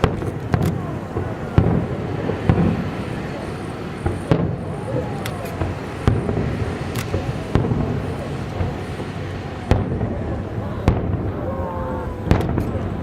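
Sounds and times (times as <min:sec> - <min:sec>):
continuous low noise: 0:00.0 - 0:13.0
fireworks bangs: 0:00.0 - 0:13.0.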